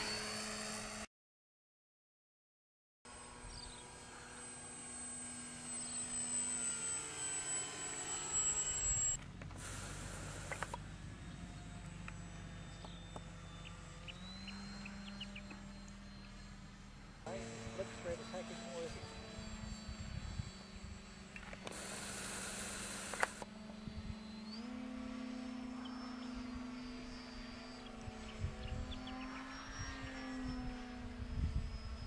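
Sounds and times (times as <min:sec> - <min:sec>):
model airplanes whining in flight: 0:00.0 - 0:01.1, 0:03.1 - 0:32.0.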